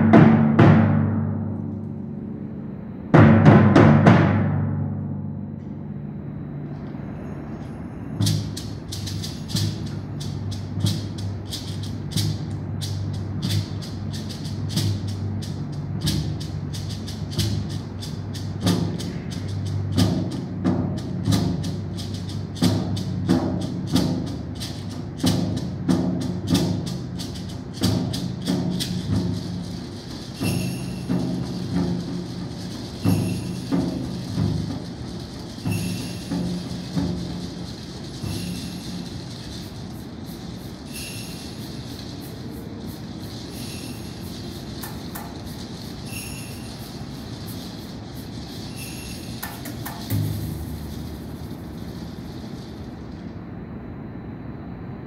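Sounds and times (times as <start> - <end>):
drum strokes: 0.0 - 5.6, 8.1 - 53.6
timpani notes ringing: 0.0 - 53.4.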